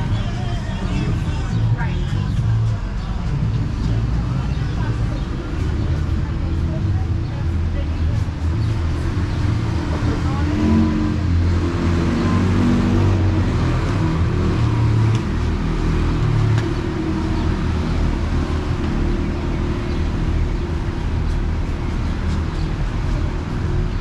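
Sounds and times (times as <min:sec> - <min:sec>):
vehicle engines rumbling: 0:00.0 - 0:24.0.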